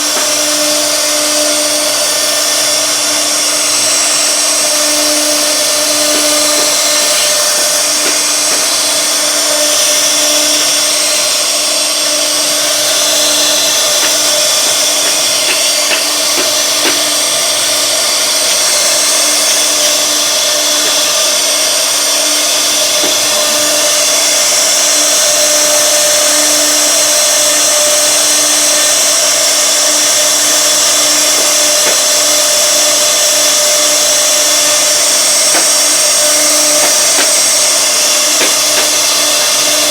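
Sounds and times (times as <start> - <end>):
hiss of cutting wood: 0.0 - 39.9
wood router spindle running: 0.0 - 39.9.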